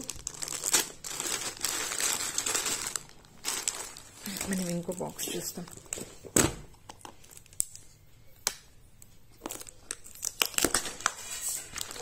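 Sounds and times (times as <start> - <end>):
plastic packaging crinkling: 0.0 - 8.1, 9.3 - 12.0.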